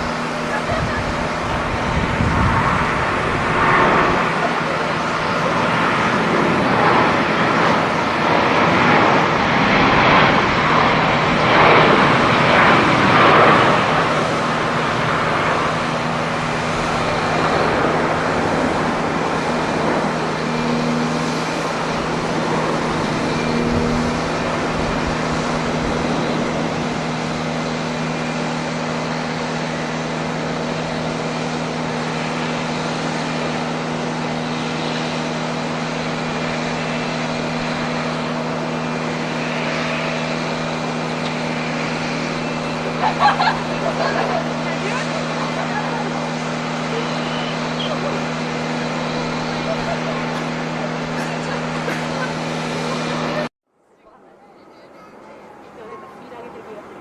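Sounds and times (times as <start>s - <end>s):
steady low hum: 0.0s - 54.6s
jet engine noise: 0.0s - 57.0s.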